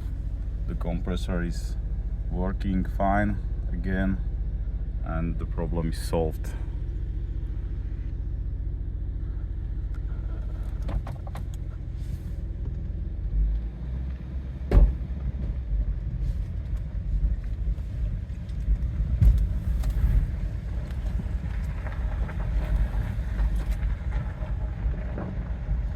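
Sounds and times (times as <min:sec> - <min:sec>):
diesel engine idling: 0:00.0 - 0:25.9.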